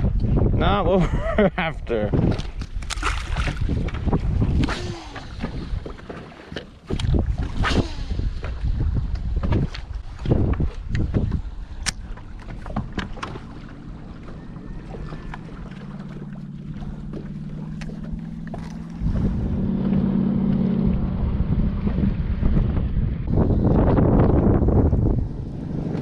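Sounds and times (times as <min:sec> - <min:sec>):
wind rumbling on microphone: 0:00.0 - 0:26.0
trolling motor humming: 0:03.6 - 0:26.0.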